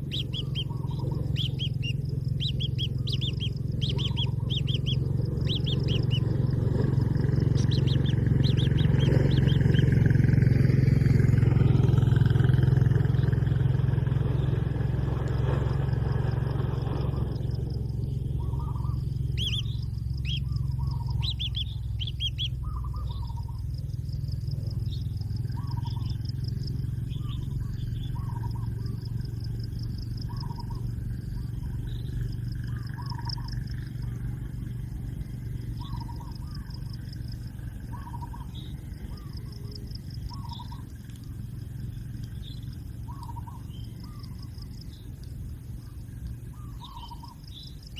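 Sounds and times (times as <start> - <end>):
higher bird chirps: 0.0 - 12.0, 16.2 - 47.9
bird calling: 0.0 - 13.4, 15.3 - 47.9
insect-like trill: 0.0 - 47.9
low hum: 0.0 - 47.9.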